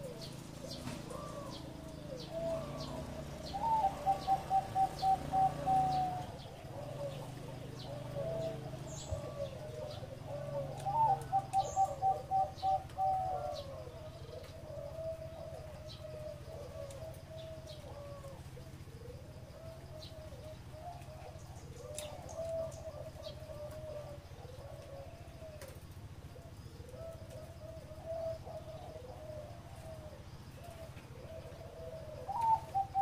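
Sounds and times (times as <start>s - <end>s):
doves cooing: 0.0s - 33.0s.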